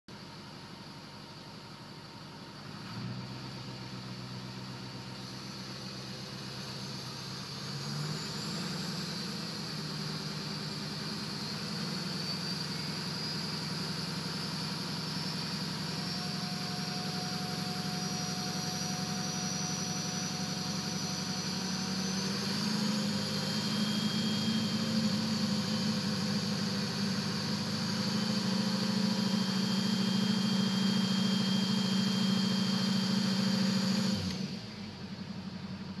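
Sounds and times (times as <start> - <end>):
diesel engine droning: 0.2 - 36.0
turbocharger whistle: 4.0 - 34.7.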